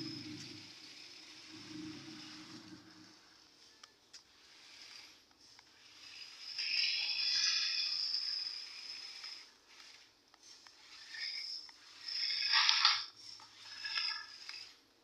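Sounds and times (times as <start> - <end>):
toy motors whining: 0.0 - 15.0.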